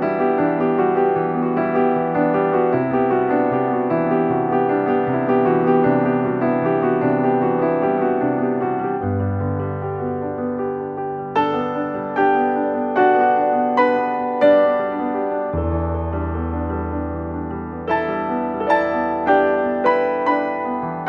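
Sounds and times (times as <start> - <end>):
gentle piano piece: 0.0 - 21.0.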